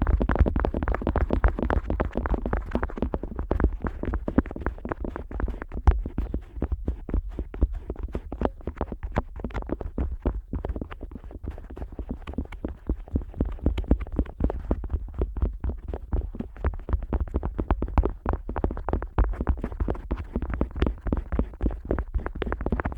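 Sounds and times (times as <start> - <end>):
muffled scrapes and bumps in ear: 0.0 - 22.9.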